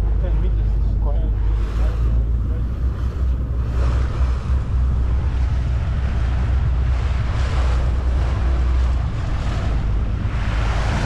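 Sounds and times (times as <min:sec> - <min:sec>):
heavy low rumble: 0:00.0 - 0:11.0
water rushing past hull: 0:00.0 - 0:11.0
wind buffeting microphone: 0:00.0 - 0:11.0.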